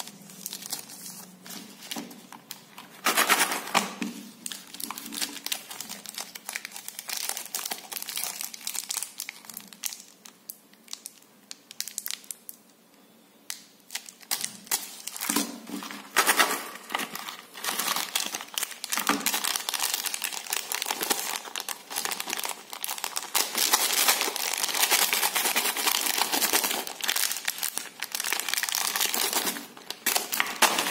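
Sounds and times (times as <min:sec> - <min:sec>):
plastic wrappers crinkling: 0:00.0 - 0:12.6, 0:13.5 - 0:30.9.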